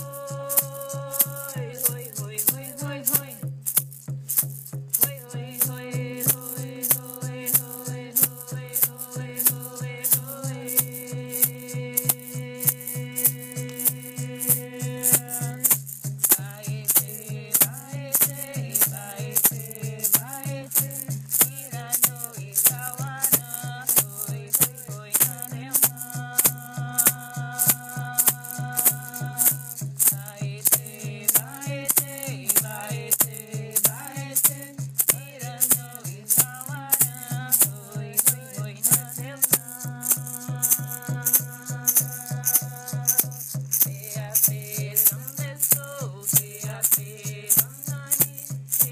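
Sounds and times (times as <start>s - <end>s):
chant singing: 0.0s - 3.4s, 5.1s - 15.7s, 16.4s - 29.6s, 30.3s - 43.3s
shaken rattle beat: 0.0s - 48.9s.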